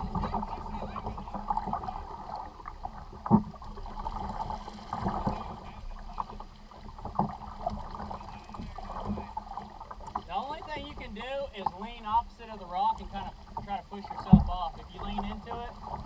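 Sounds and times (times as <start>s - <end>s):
moving water: 0.0s - 16.0s
wind: 0.0s - 16.0s.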